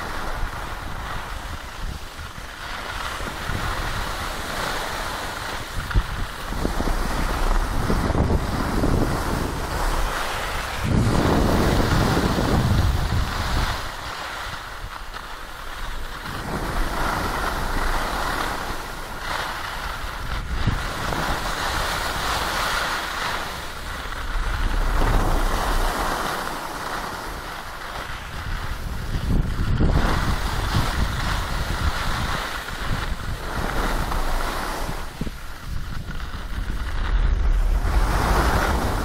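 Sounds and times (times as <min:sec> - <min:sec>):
skis sliding on snow: 0:00.0 - 0:39.0
wind buffeting microphone: 0:00.0 - 0:39.0.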